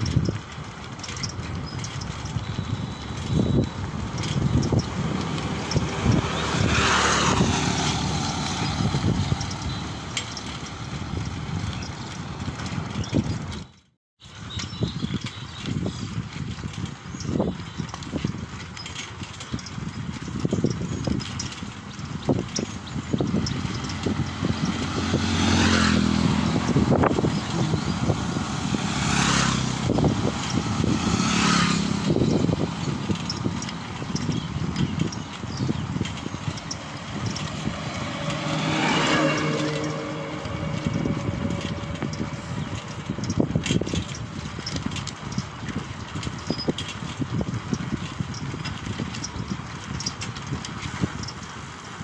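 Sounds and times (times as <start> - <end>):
motorbike passing: 0.0 - 13.6, 20.6 - 52.0
bicycle riding rumble: 0.0 - 52.0
wind on microphone: 0.0 - 52.0.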